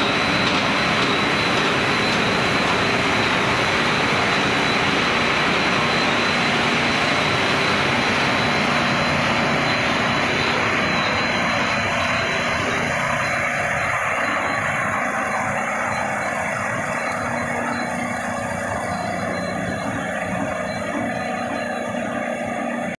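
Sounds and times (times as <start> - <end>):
high whine: 0.0 - 22.9
machinery roar: 0.0 - 22.9.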